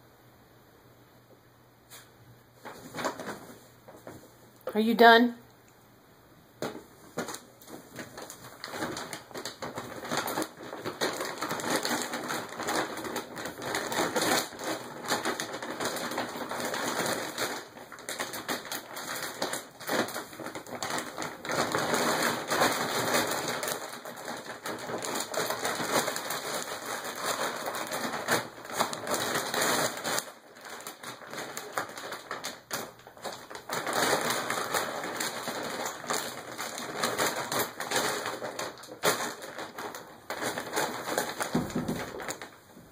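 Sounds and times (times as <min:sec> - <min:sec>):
plastic bag crinkling and rustling: 0:02.6 - 0:05.0, 0:06.6 - 0:42.9.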